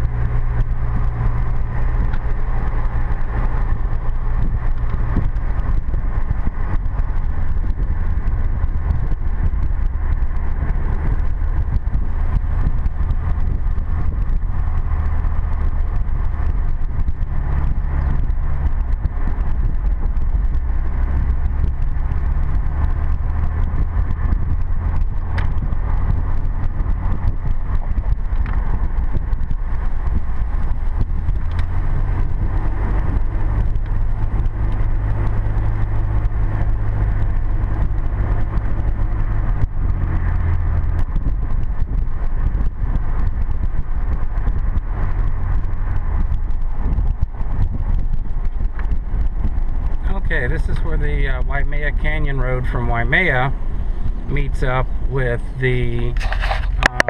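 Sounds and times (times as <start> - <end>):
road noise: 0.0 - 57.0
truck engine and tyre drone: 0.0 - 57.0.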